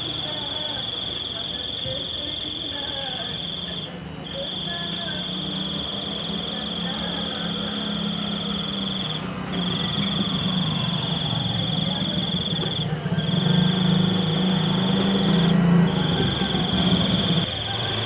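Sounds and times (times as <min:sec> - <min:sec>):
high pulsing insect-like trill: 0:00.0 - 0:18.0.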